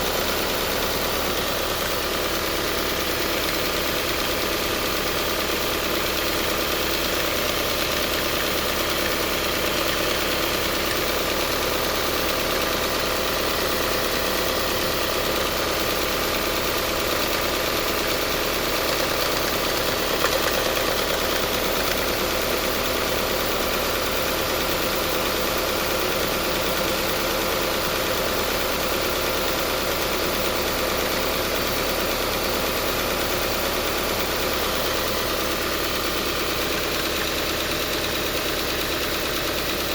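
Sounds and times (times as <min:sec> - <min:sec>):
car engine idling: 0:00.0 - 0:39.9
engine ticking: 0:00.0 - 0:39.9.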